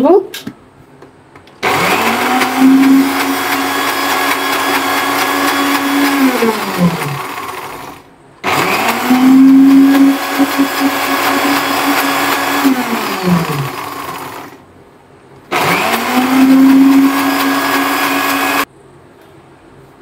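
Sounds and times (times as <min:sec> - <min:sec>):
electric blender motor: 0:01.6 - 0:14.6, 0:15.5 - 0:18.7.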